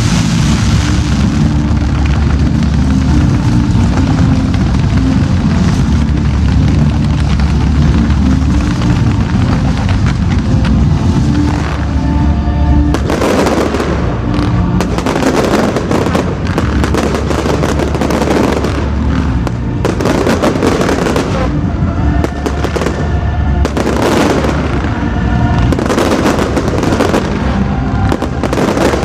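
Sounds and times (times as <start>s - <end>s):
firework crackling: 0.0s - 29.0s
music playing: 0.0s - 29.0s.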